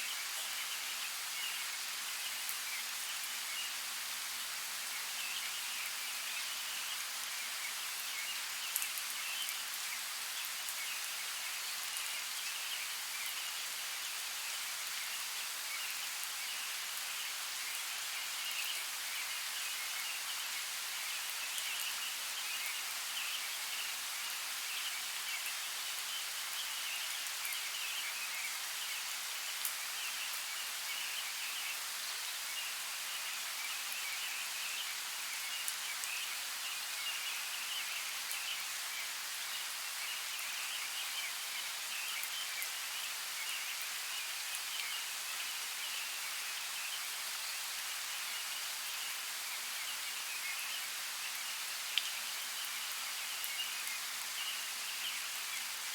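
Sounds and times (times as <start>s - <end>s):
light rain falling: 0.0s - 55.9s.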